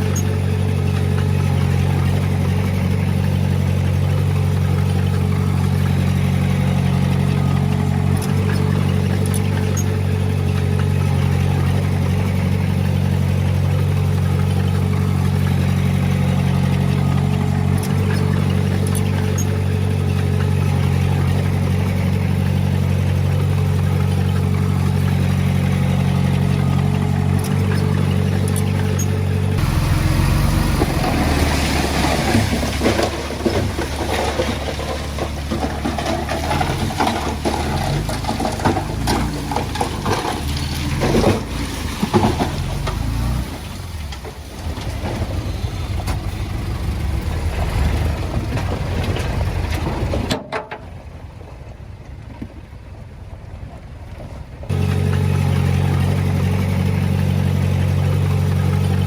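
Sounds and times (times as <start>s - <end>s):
diesel engine running: 0.0s - 59.0s
rough noisy engine: 0.0s - 59.0s.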